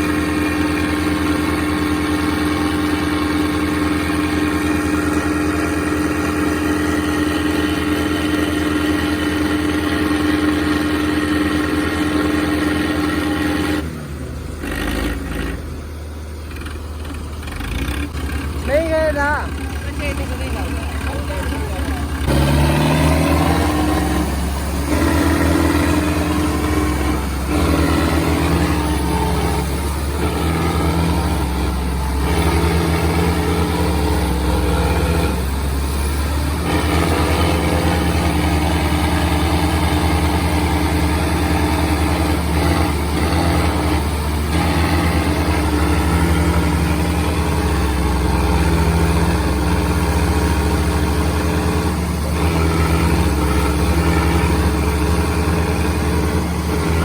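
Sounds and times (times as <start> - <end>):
tractor diesel engines under load: 0.0 - 57.0.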